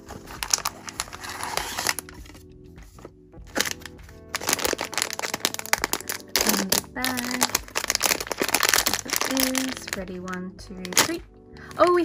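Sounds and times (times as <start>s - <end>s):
foil bag crinkling and tearing: 0.0s - 2.2s, 3.5s - 11.2s
background music: 0.0s - 12.0s.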